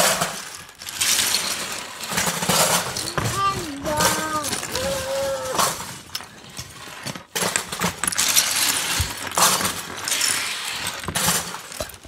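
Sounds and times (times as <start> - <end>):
plastic bricks clattering: 0.0 - 12.0.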